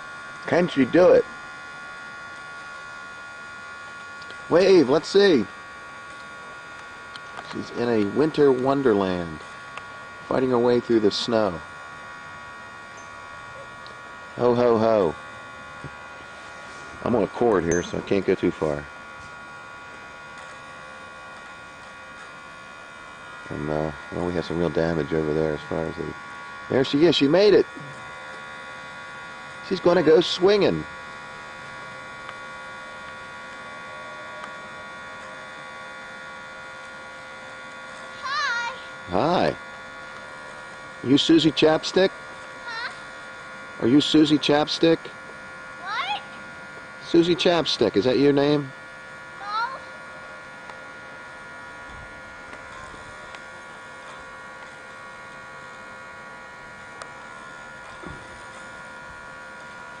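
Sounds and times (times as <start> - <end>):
electrical mains hum: 0.0 - 60.0.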